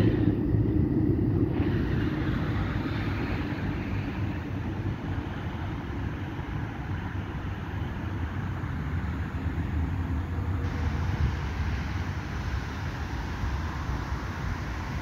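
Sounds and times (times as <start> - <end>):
road traffic: 0.0 - 15.0
tram rolling along track: 0.0 - 15.0
wind on microphone: 0.0 - 15.0.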